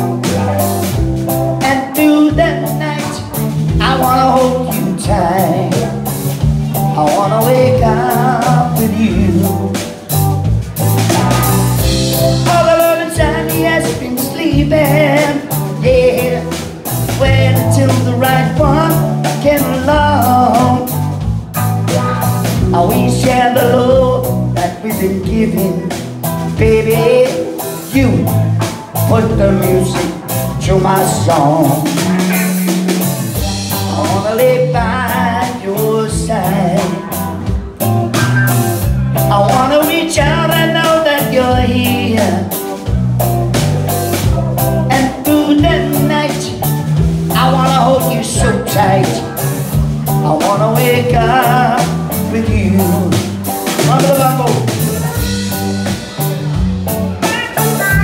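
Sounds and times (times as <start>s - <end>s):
live band playing: 0.0s - 58.0s
man singing with rock band: 0.0s - 58.0s.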